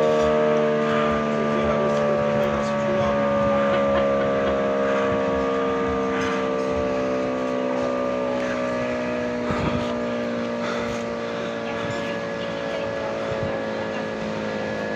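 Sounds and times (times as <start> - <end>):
siren winding down: 0.0 - 14.9.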